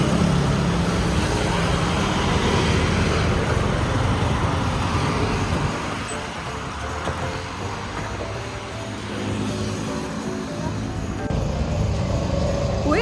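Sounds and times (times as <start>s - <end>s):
road traffic engines rumbling: 0.0s - 13.0s.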